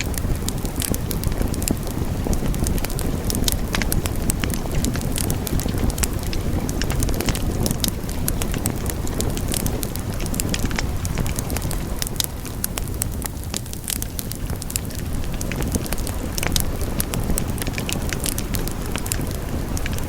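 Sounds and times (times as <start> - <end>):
fire burning in a fireplace: 0.0 - 20.0
fire crackles and pops: 0.0 - 20.0.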